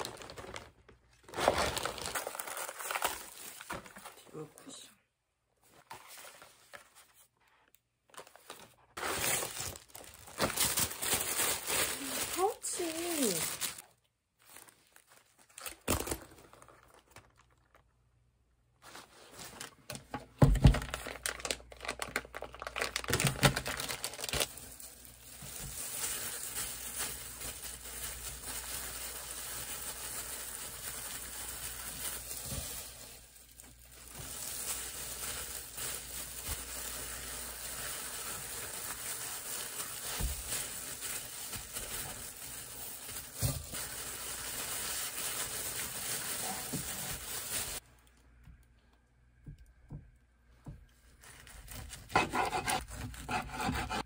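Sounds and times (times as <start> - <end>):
plastic crinkling and rustling: 0.0 - 4.5, 5.6 - 18.2, 18.8 - 48.3, 51.0 - 52.1.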